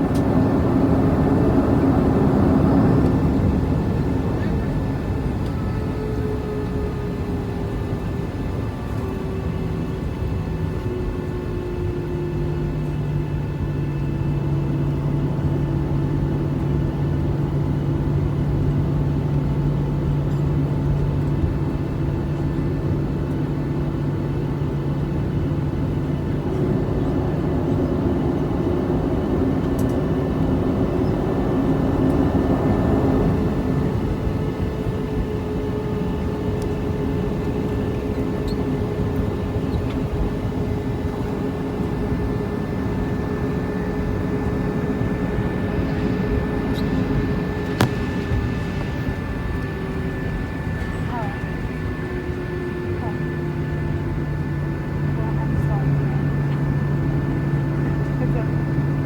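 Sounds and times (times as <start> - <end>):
jet engines droning in cabin: 0.0 - 59.0.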